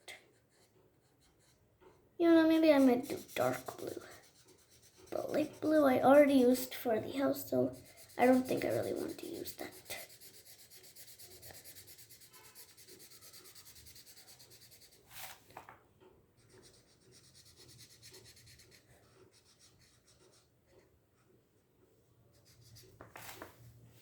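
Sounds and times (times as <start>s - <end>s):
marker scratching on paper: 0.0s - 1.6s, 2.2s - 15.4s, 16.4s - 20.9s, 22.3s - 23.4s.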